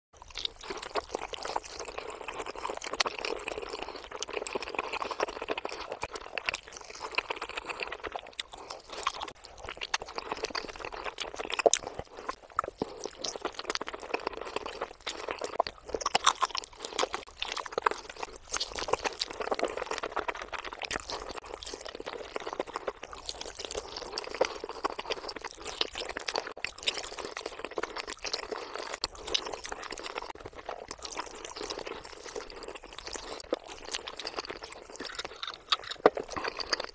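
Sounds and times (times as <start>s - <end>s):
wet chewing and crunching: 0.2s - 36.9s.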